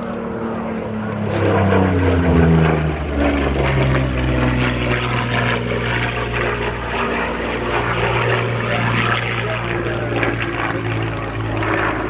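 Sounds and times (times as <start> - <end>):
propeller aircraft flying past: 0.0 - 12.0.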